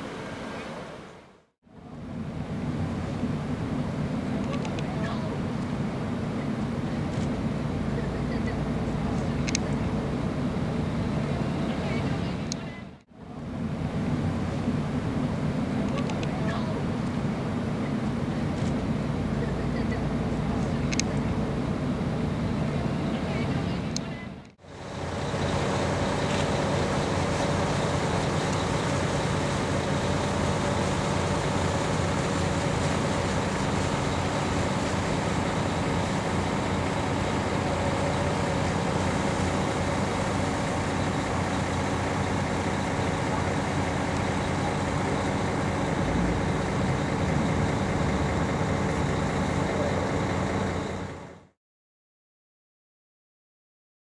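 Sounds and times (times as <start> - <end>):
boat engine drone: 0.0 - 51.6.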